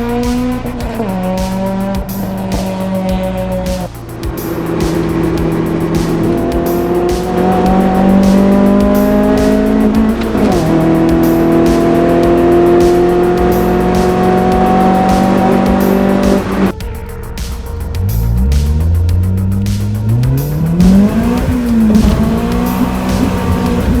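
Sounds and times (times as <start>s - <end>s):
car engine accelerating hard: 0.0s - 16.7s, 18.1s - 24.0s.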